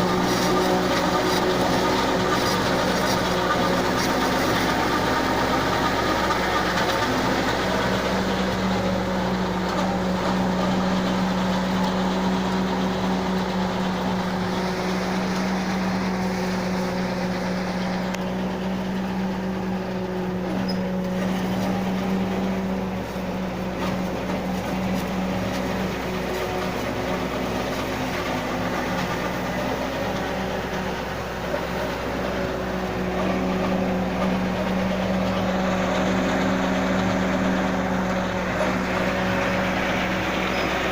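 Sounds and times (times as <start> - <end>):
harvester mechanical noise: 0.0 - 40.9
tractor engine running: 0.0 - 40.9.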